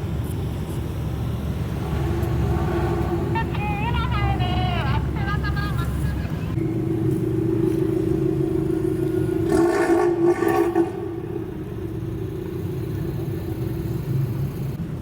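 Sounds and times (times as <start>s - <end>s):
car exhaust droning: 0.0s - 14.8s.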